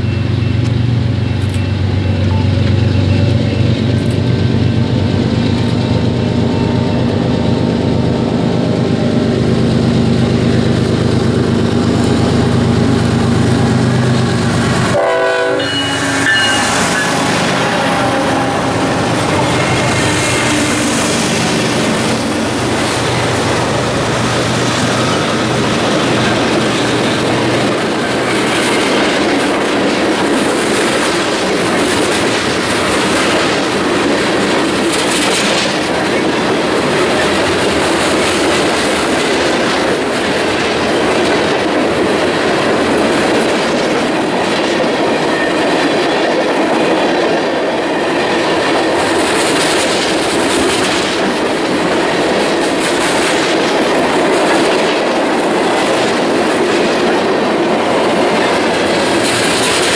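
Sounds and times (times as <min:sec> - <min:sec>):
diesel locomotive engines humming: 0:00.0 - 0:59.9
steel wheels clattering on rails: 0:00.0 - 0:59.9.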